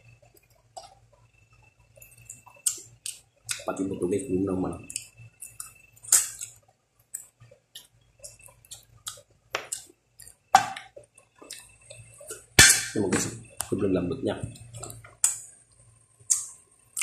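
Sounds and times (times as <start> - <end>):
chewing soft food: 0.0 - 4.0, 4.8 - 12.6, 14.5 - 17.0.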